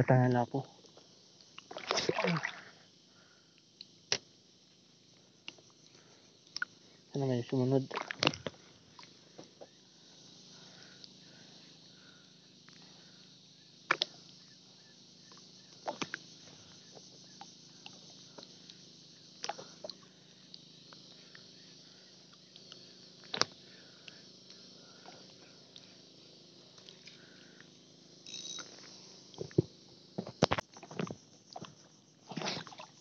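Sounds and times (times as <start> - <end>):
faint open-water hiss: 0.0 - 33.0.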